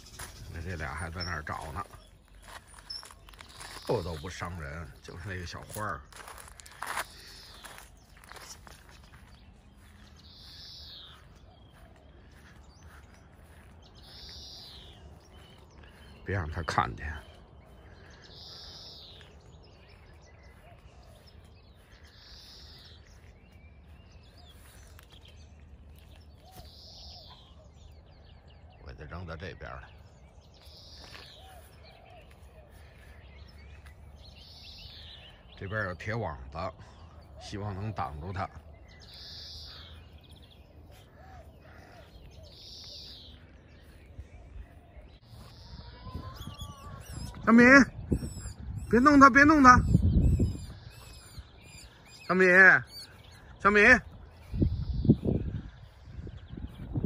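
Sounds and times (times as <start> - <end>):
bird calling: 0.0 - 57.0
soft bird chirps: 0.0 - 57.0.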